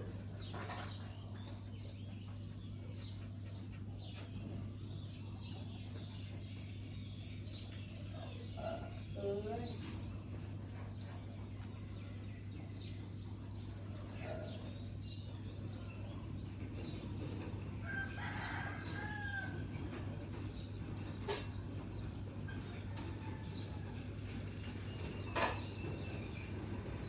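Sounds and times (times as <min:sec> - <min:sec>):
birds chirping: 0:00.0 - 0:27.0
steady low hum: 0:00.0 - 0:27.0.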